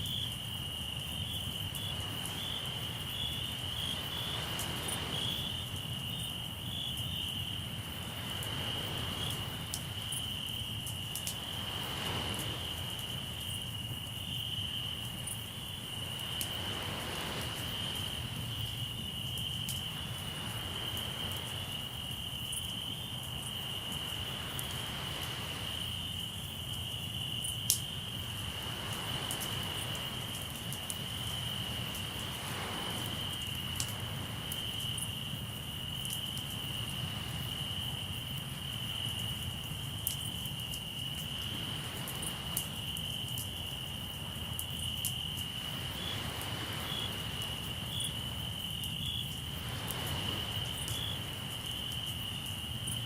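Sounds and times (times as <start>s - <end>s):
crickets chirring: 0.0s - 53.0s
waves washing ashore: 0.0s - 53.0s
campfire crackling: 0.1s - 53.0s.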